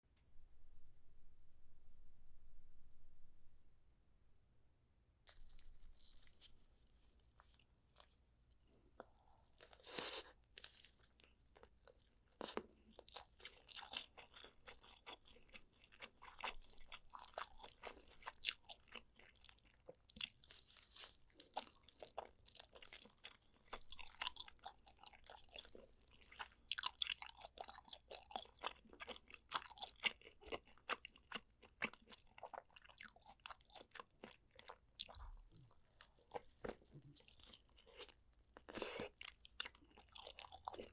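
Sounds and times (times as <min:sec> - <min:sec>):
chewing and crunching ribs: 0:07.4 - 0:40.9.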